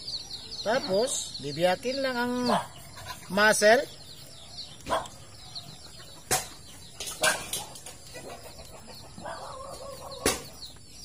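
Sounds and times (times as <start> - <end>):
chickens clucking: 0.0 - 11.0
faint small birds chirping: 0.0 - 11.0.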